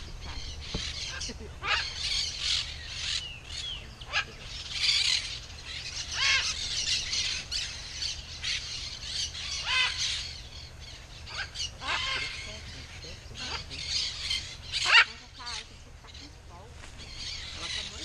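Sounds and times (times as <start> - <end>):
chorus of birds calling: 0.0 - 18.0
macaws squawking: 0.0 - 18.0.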